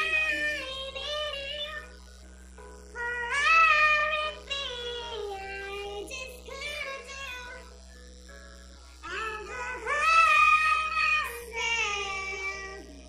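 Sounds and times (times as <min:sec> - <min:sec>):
high-pitched sped-up singing: 0:00.0 - 0:02.0, 0:02.6 - 0:13.0
music: 0:00.0 - 0:13.0.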